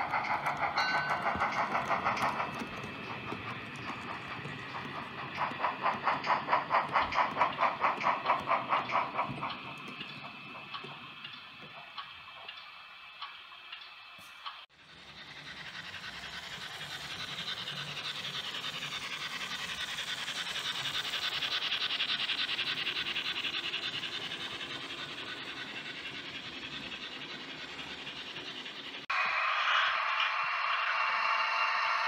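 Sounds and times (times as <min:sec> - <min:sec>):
model train running on track: 0:00.0 - 0:32.0.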